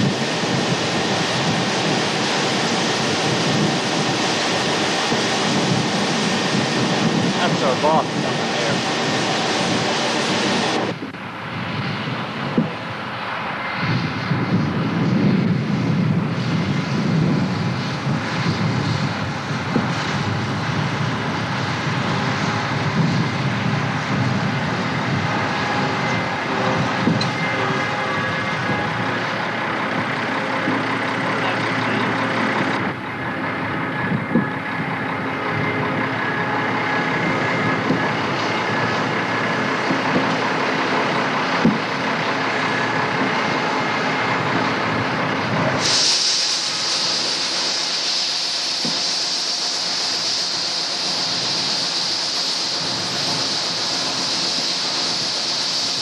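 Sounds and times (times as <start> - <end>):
broad rushing noise: 0.0 - 56.0
combine engine and threshing machinery: 0.0 - 56.0.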